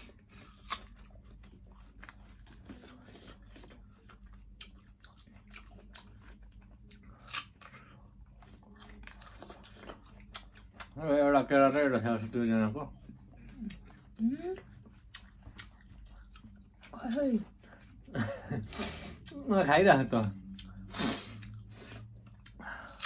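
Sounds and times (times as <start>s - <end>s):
apple crunching while chewed: 0.0s - 23.0s.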